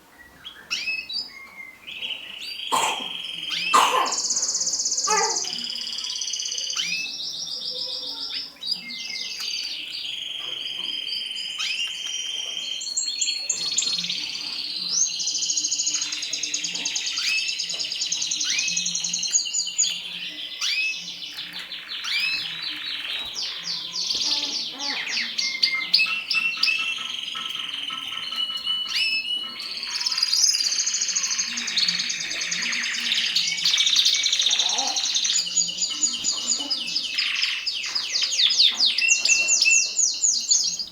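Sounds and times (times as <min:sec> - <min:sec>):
canaries singing: 0:00.0 - 0:40.9.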